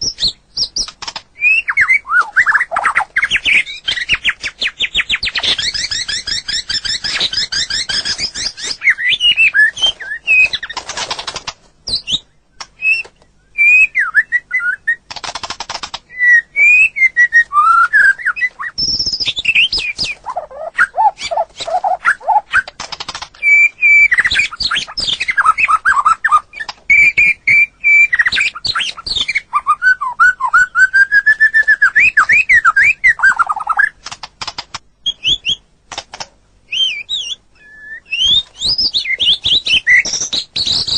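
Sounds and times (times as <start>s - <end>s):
songbird singing varied song: 0.0s - 10.8s, 11.8s - 15.1s, 16.1s - 22.8s, 23.4s - 34.0s, 35.0s - 35.7s, 36.7s - 40.9s.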